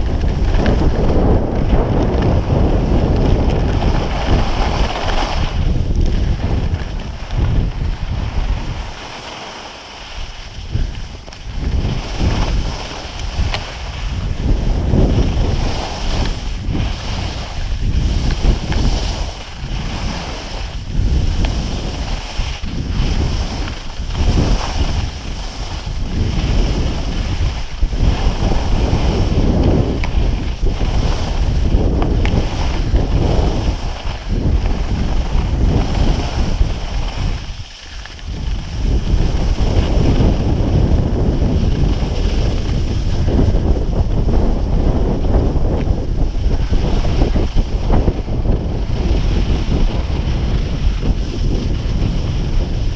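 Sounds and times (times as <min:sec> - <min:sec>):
skis scraping over snow: 0:00.0 - 0:52.9
wind rushing over microphone: 0:00.0 - 0:52.9.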